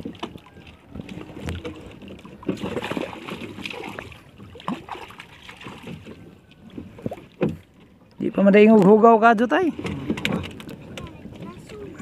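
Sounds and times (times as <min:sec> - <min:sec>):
sea water sloshing and splashing: 0:00.0 - 0:08.9, 0:09.5 - 0:12.0.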